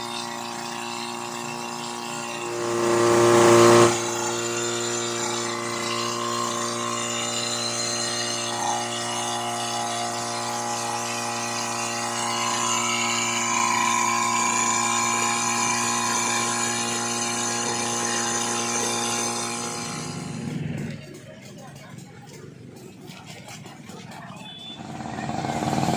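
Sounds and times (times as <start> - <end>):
fire pump engine droning: 0.0 - 21.2.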